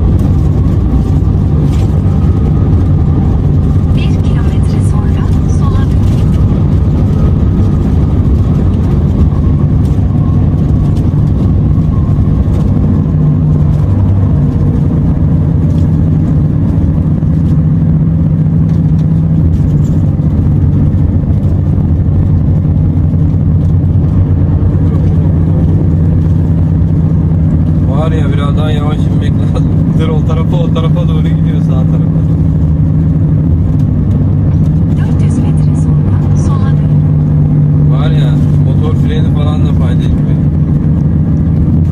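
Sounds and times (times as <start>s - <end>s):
truck diesel engine humming: 0.0s - 41.9s.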